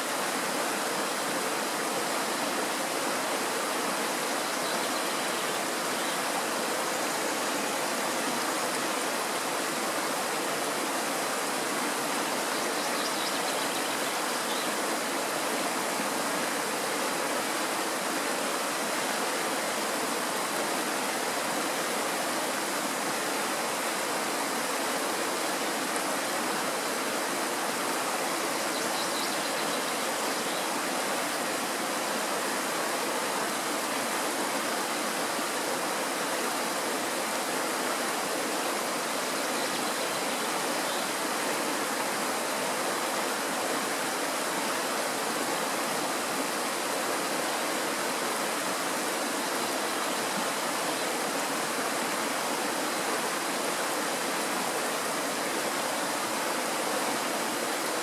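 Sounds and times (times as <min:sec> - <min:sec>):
stream rushing over cobbles: 0:00.0 - 0:58.0.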